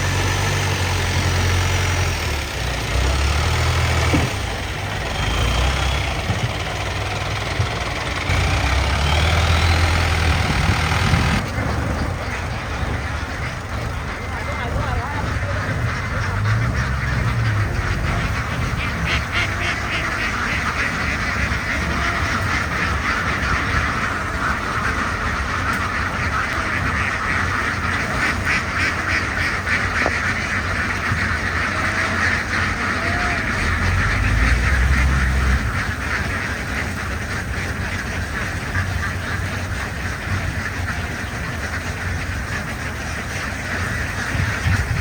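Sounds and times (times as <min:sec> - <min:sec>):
flock of ducks quacking: 0:00.0 - 0:45.0.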